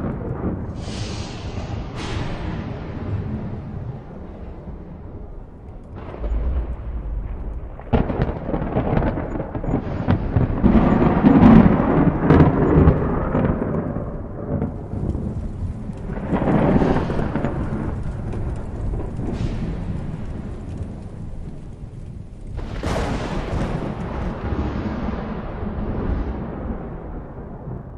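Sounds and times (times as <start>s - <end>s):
steady rain: 0.0s - 27.9s
thunder rumbling: 0.0s - 27.9s.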